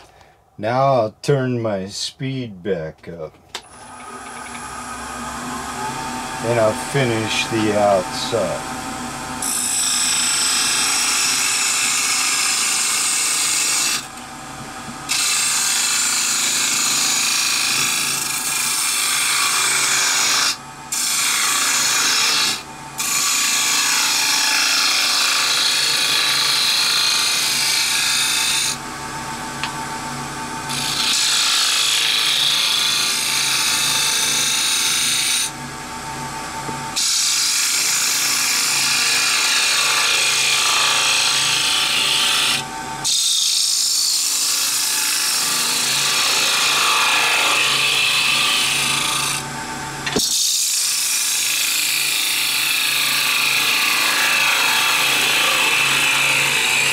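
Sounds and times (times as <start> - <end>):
lathe tool cutting wood: 3.6 - 14.2, 15.1 - 28.8, 30.6 - 35.6, 36.9 - 49.5, 50.1 - 56.9
lathe motor hum: 3.6 - 56.9.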